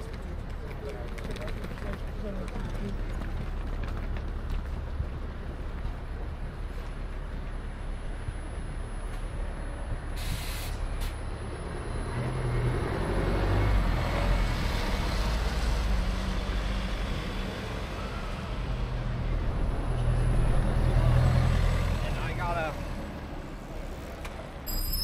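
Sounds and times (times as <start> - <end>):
bus engines humming: 0.0 - 25.0
road noise: 0.0 - 25.0.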